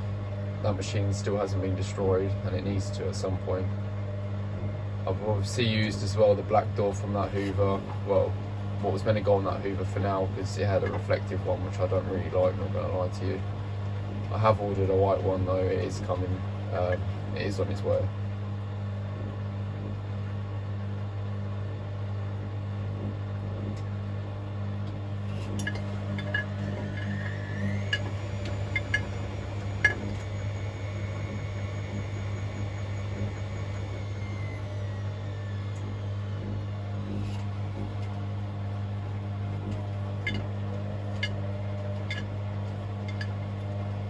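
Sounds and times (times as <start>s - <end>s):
washing machine spinning: 0.0s - 44.0s.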